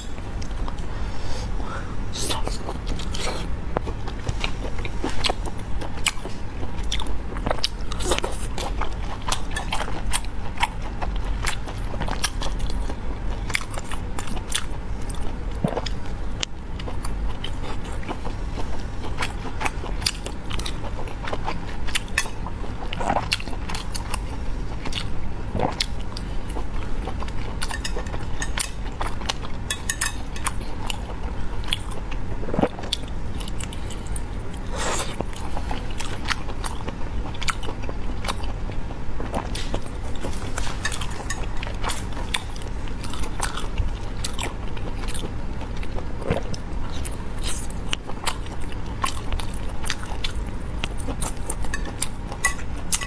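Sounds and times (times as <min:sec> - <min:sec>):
biting and chewing sausage: 0:02.4 - 0:53.0.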